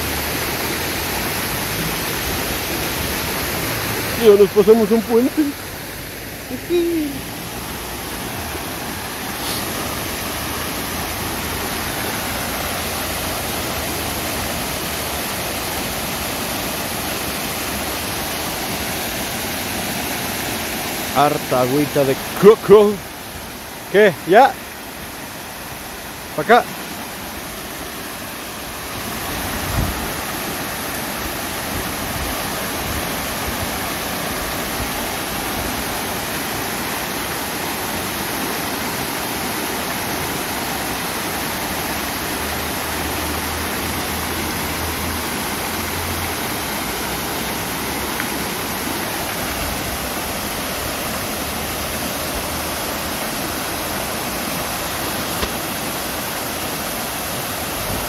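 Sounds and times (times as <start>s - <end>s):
flowing stream water: 0.0s - 58.0s.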